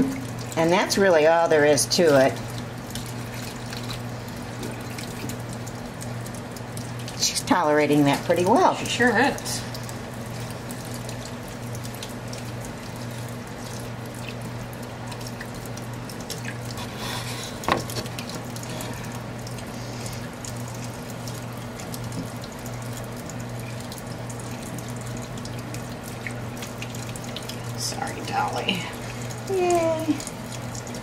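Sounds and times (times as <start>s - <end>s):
faucet running into steel sink: 0.0s - 31.0s.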